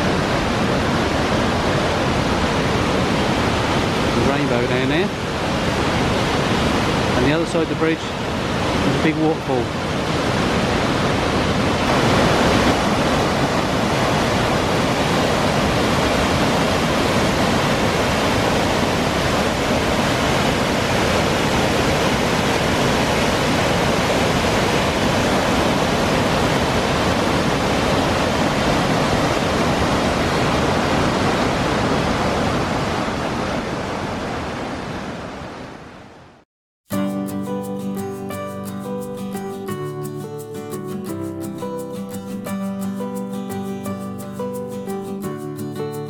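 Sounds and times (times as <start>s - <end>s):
waterfall rushing: 0.0s - 33.5s, 36.9s - 46.0s.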